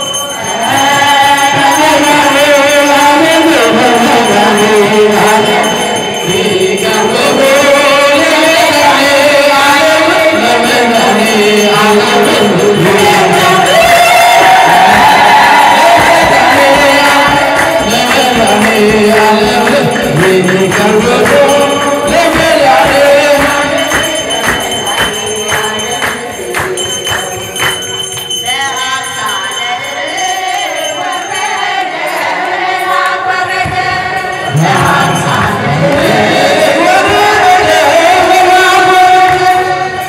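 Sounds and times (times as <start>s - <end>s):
rhythmic handclapping: 0.0s - 40.0s
voices singing a hymn: 0.0s - 40.0s.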